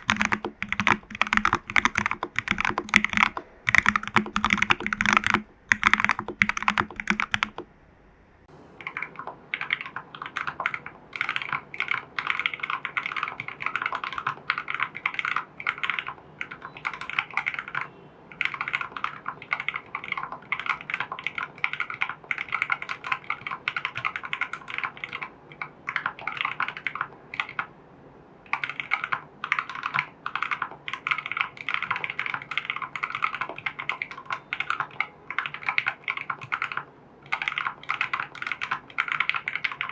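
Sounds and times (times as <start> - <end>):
typing on mechanical keyboard: 0.0 - 7.7, 8.8 - 27.7, 28.5 - 39.9.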